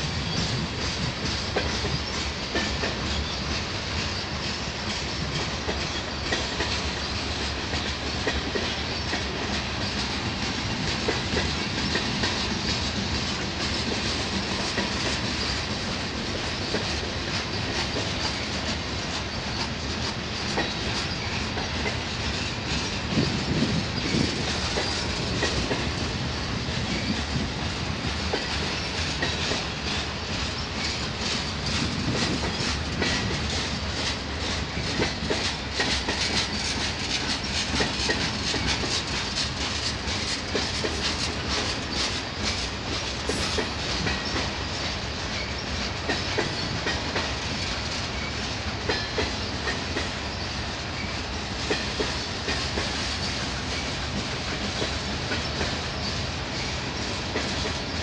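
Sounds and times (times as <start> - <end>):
freight train rumbling past: 0.0 - 58.0
wheels clacking over rail joints: 0.0 - 58.0.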